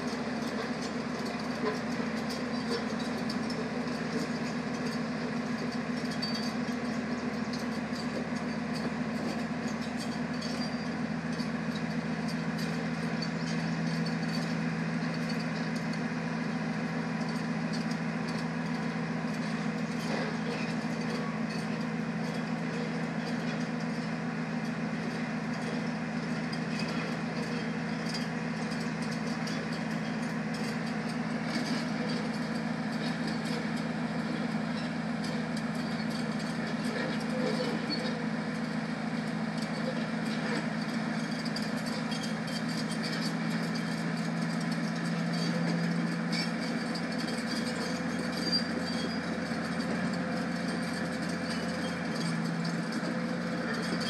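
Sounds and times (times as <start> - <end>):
heavy diesel engines droning: 0.0 - 54.0.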